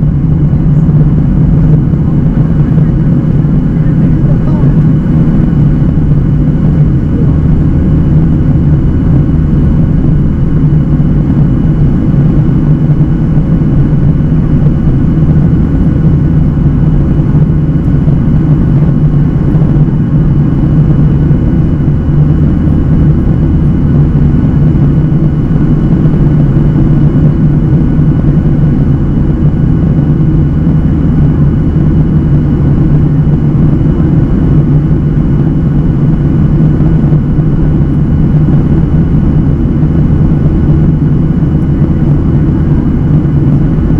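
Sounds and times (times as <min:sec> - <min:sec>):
airplane cabin engine hum: 0:00.0 - 0:43.9.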